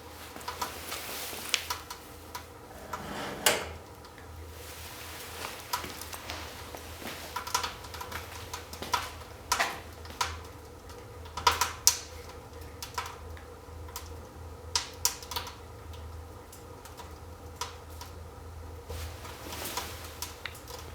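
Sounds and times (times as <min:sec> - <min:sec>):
wood fire crackling: 0:00.0 - 0:03.0, 0:03.7 - 0:20.9.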